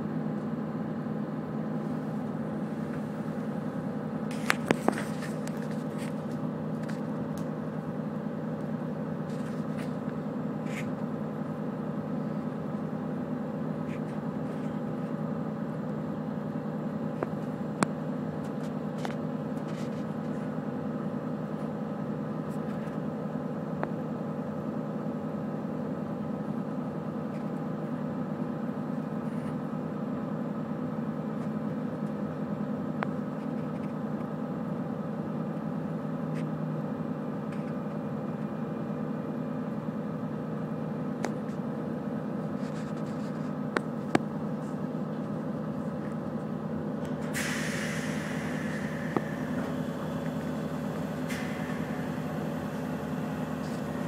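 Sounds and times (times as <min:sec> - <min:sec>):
train running hum: 0:00.0 - 0:54.0.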